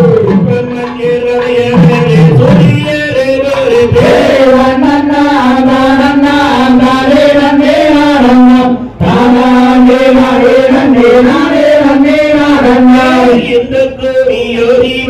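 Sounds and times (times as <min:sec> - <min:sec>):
person singing chant-like lines: 0:00.0 - 0:15.0.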